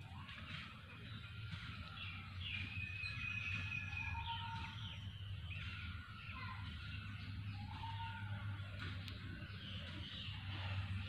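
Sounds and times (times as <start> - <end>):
birds whistling calls: 0.0 - 11.0.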